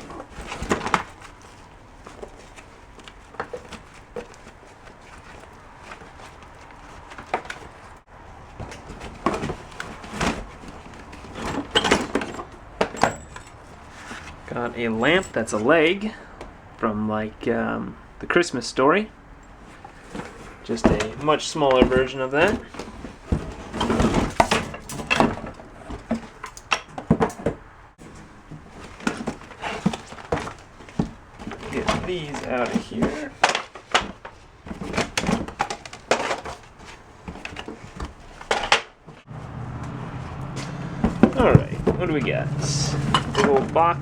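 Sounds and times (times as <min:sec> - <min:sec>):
household items knocking and clattering: 0:00.0 - 0:16.7, 0:19.4 - 0:44.0.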